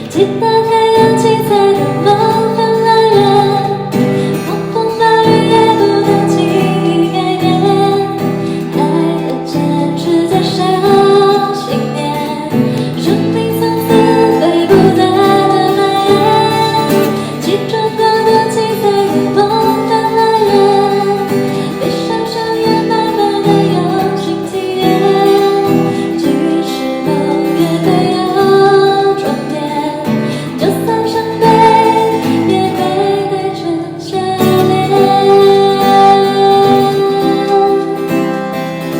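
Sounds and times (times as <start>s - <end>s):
strummed acoustic guitar: 0.0s - 38.9s
woman singing: 0.0s - 38.9s.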